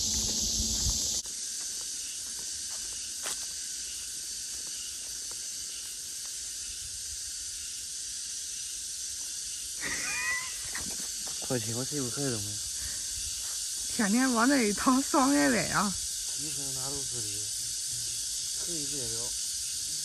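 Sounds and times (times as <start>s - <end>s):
cicadas chorus: 0.0s - 20.0s.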